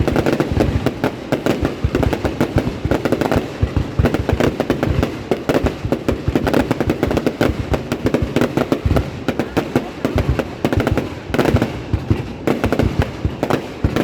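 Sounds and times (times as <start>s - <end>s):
fireworks booming and crackling: 0.0s - 14.0s.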